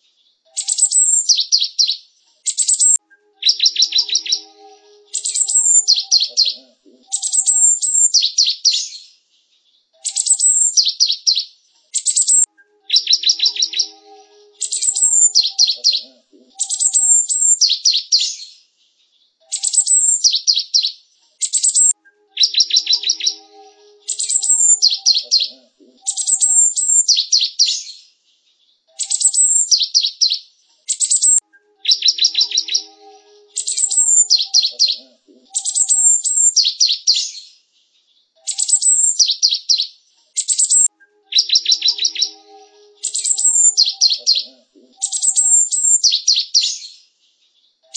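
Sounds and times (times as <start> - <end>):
sparrow singing: 0.5 - 9.1, 10.0 - 18.6, 19.4 - 28.0, 28.9 - 37.5, 38.4 - 47.0.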